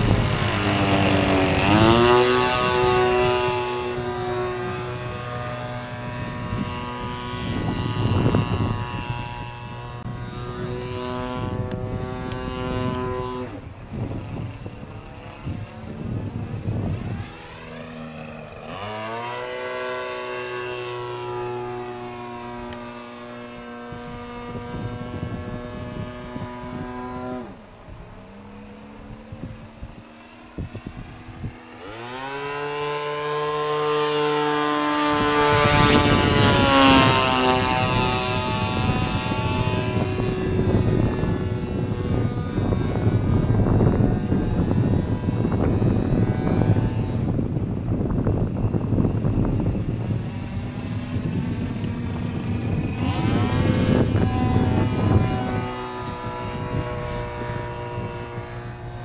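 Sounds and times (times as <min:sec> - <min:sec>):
model plane engine running: 0:00.0 - 0:59.0.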